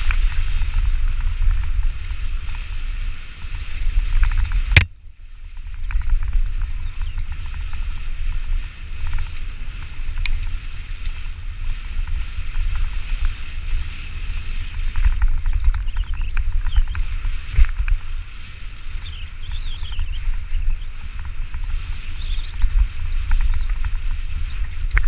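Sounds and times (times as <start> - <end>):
bike rattling over rough ground: 0.0 - 25.0
wind buffeting microphone: 0.0 - 25.0.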